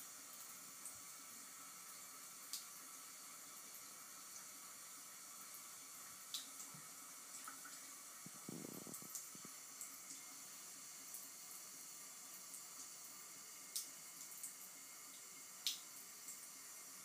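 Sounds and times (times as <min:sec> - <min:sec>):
faucet running: 0:00.0 - 0:17.0.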